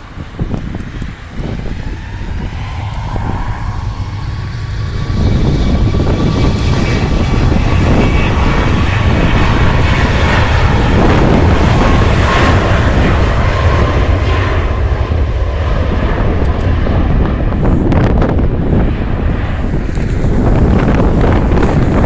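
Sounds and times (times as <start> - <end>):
jet engines whining at takeoff: 0.0 - 22.0.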